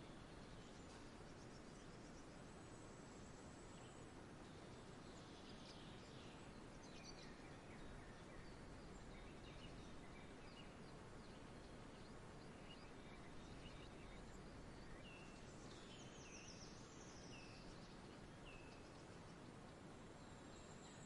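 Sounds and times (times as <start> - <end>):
small birds chirping: 0.0 - 21.0
steady background hiss: 0.0 - 21.0.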